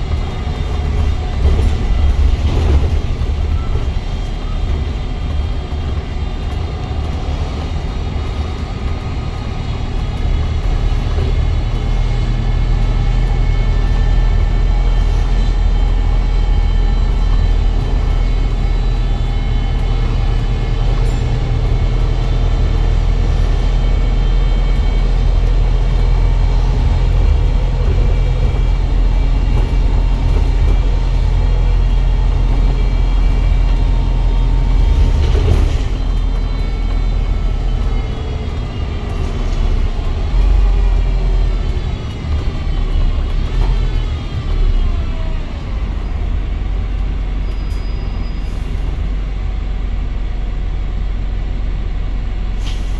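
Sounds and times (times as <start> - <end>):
bus engine drone: 0.0 - 52.9.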